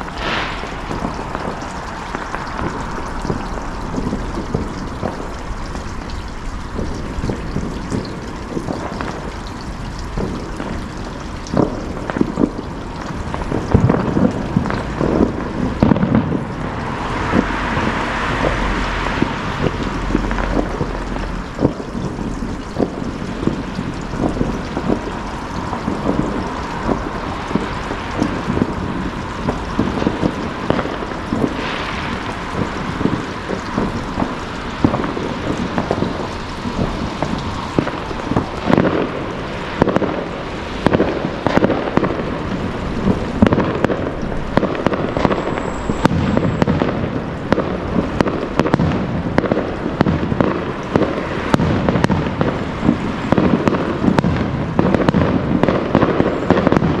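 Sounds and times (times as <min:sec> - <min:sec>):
fireworks bangs and crackles: 0:00.0 - 0:57.0
steady noisy background: 0:00.0 - 0:57.0.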